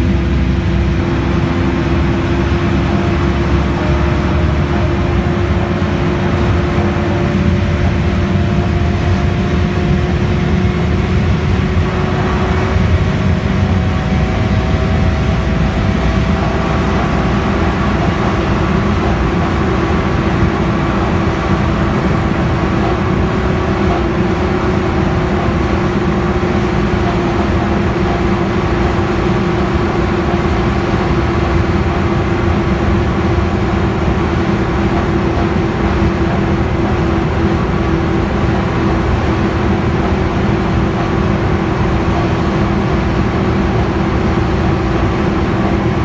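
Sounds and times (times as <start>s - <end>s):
bus diesel engine running: 0.0s - 46.0s
road noise: 0.0s - 46.0s.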